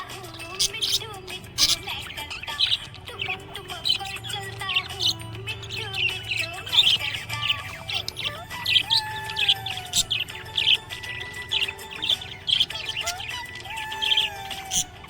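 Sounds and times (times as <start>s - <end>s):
budgerigar chirping and warbling: 0.0s - 15.0s.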